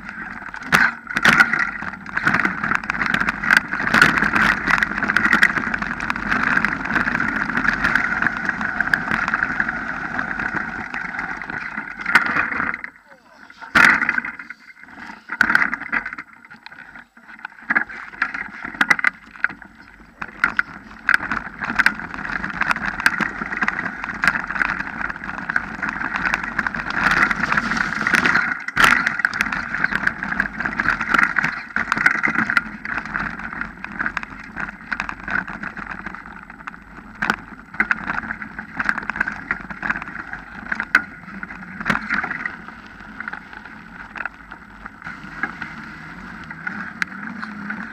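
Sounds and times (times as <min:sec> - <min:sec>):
bike rattling and knocking: 0:00.0 - 0:47.9
bike tyres rushing on gravel: 0:00.0 - 0:47.9.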